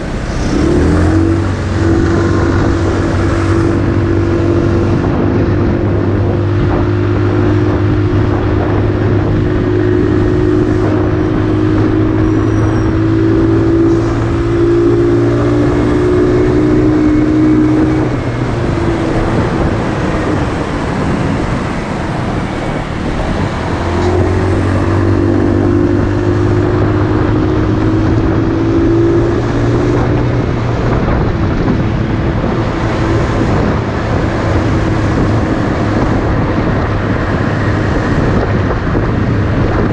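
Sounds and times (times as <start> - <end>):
motorcycle engine running: 0.0 - 39.9
rushing wind: 0.0 - 39.9.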